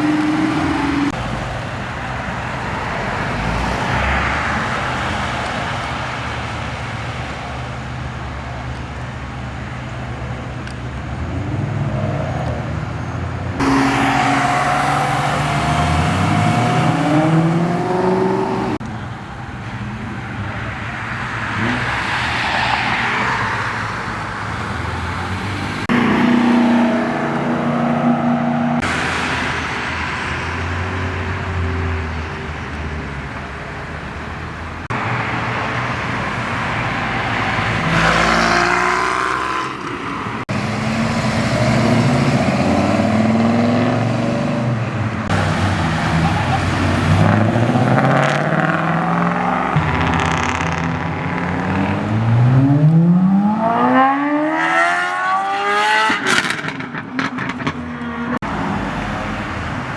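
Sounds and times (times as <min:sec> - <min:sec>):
car engines revving and accelerating: 0:00.0 - 0:59.9.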